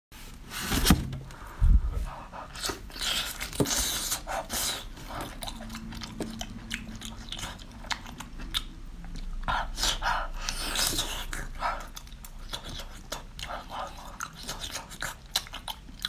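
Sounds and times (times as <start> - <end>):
person chewing crunchy food: 2.6 - 16.0.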